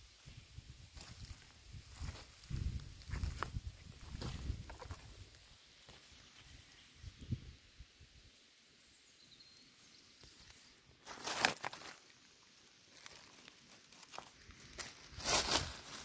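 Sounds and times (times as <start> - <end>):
dry leaves and twigs crackling: 0.0 - 7.4, 9.7 - 16.0.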